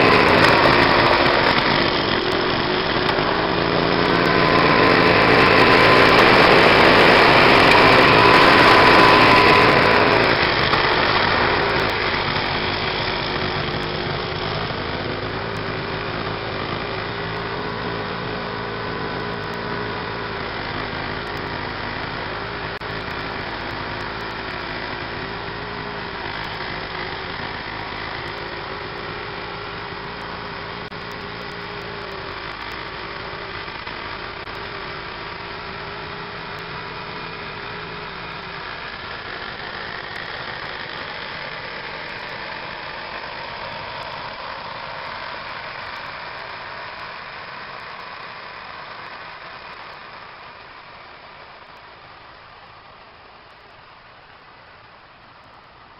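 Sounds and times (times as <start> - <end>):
snow blower engine running: 0.0 - 55.9.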